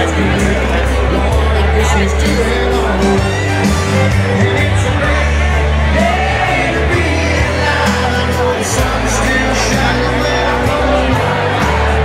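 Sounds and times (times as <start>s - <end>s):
crowd shouting: 0.0s - 12.0s
electric blues band playing: 0.0s - 12.0s
held bass notes: 0.0s - 12.0s.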